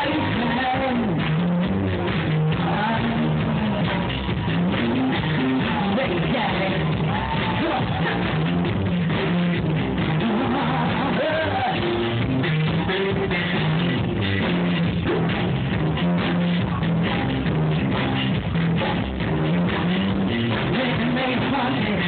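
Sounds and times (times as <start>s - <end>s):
rock music with singing: 0.0s - 22.0s.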